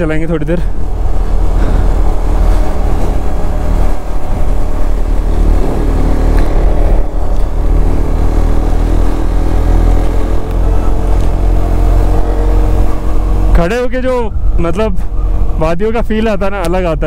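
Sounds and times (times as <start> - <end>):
wind rumble on microphone: 0.0 - 17.0
motorcycle engine running: 0.7 - 15.5.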